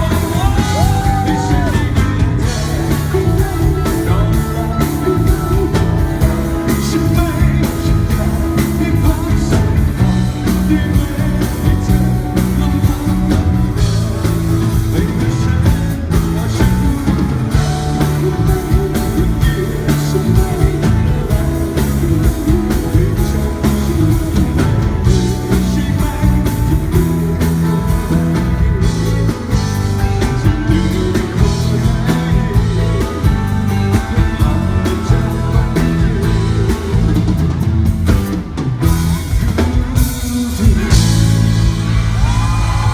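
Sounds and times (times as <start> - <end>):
live pop-rock band with singer: 0.0 - 42.9.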